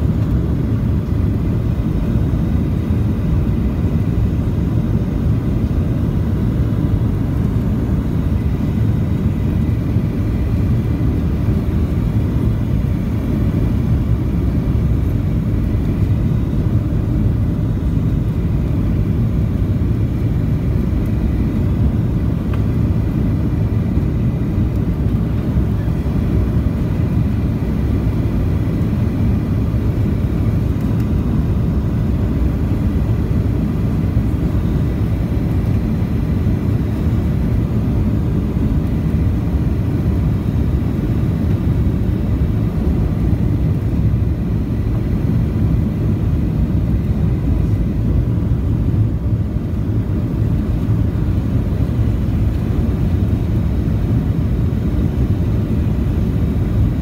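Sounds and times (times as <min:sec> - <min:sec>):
low rumble of jet engines: 0:00.0 - 0:57.0.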